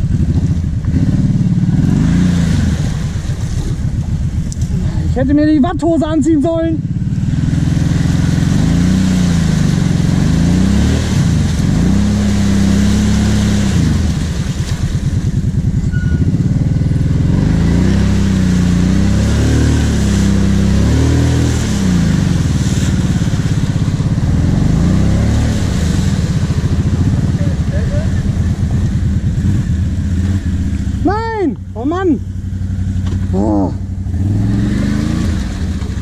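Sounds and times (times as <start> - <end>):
water churning: 0.0 - 5.5, 6.3 - 36.0
atv engine revving: 0.0 - 36.0.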